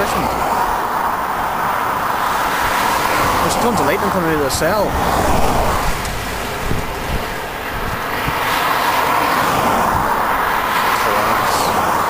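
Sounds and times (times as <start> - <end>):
car swishing past: 0.0 - 12.0
road and tyre noise: 0.0 - 12.0.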